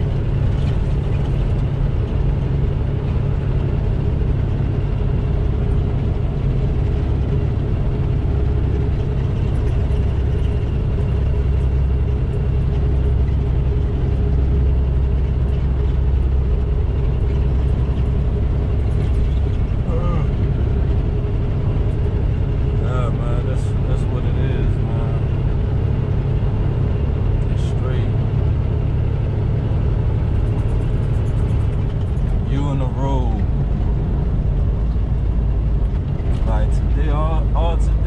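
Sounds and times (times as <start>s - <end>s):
truck diesel engine running: 0.0s - 38.0s
tyre and road noise: 0.0s - 38.0s.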